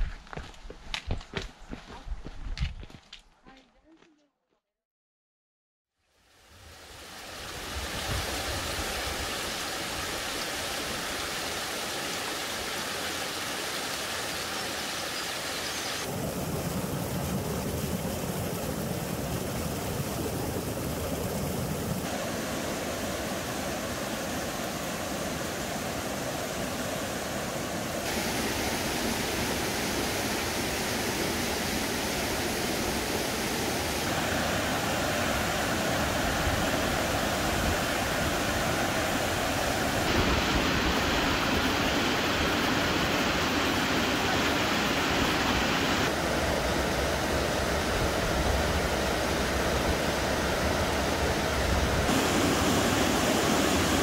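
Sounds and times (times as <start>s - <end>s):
stream and waterfalls rushing: 6.1s - 54.0s.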